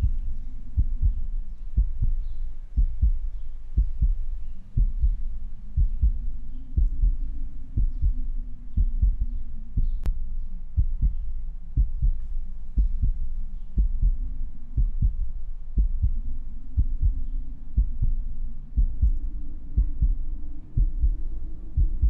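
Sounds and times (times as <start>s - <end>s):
heartbeat thumps: 0.0s - 22.0s
low steady drone: 0.0s - 22.0s.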